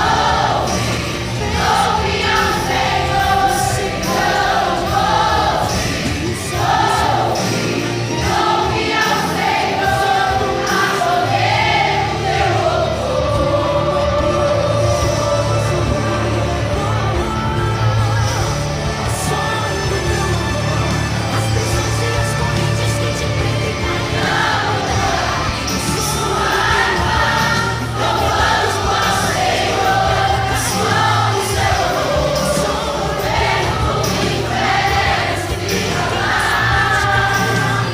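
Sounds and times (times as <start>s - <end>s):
choir singing long held notes: 0.0s - 37.9s
instrumental accompaniment with bass: 0.0s - 37.9s.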